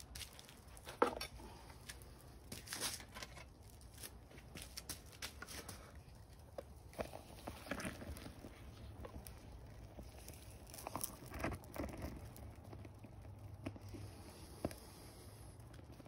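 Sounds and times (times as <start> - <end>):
burning foam crackling: 0.0 - 16.0.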